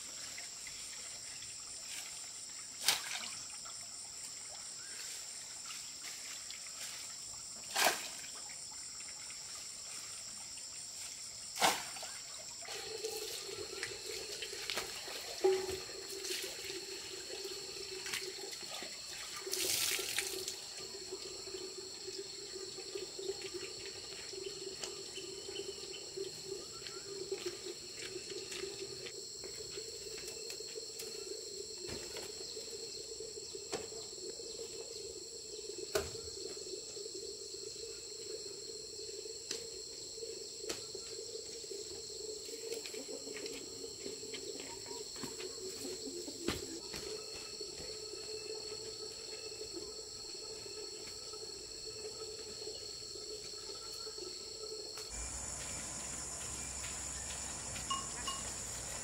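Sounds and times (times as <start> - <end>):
insect chirring: 0.0 - 59.0.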